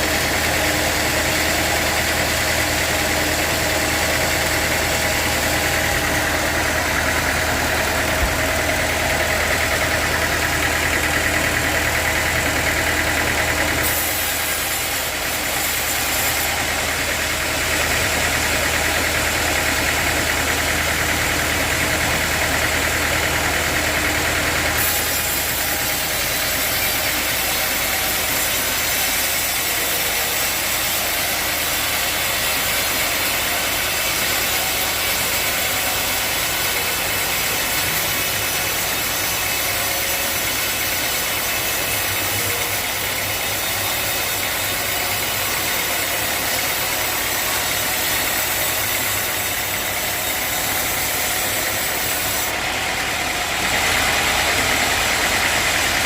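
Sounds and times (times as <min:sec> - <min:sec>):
saw hissing: 0:00.0 - 0:19.9, 0:22.9 - 0:52.6
sawmill engine humming: 0:00.0 - 0:56.0.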